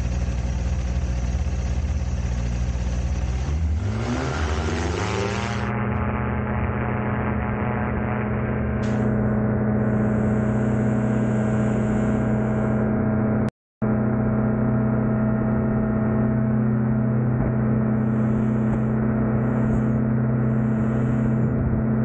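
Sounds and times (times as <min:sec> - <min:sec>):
ultralight engine and propeller droning: 0:00.0 - 0:22.0.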